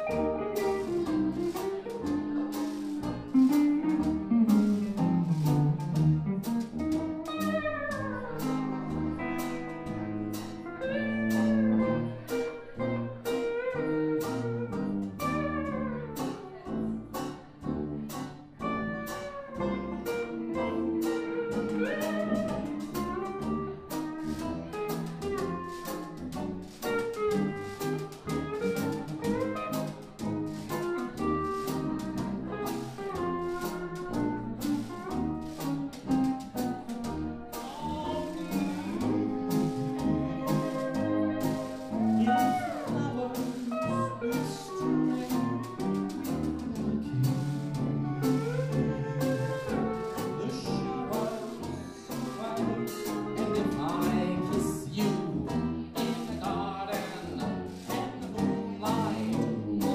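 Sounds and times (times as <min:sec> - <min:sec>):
lap steel guitar melody: 0:00.0 - 0:16.6, 0:18.6 - 0:53.5
strummed guitar rhythm: 0:00.0 - 0:59.9.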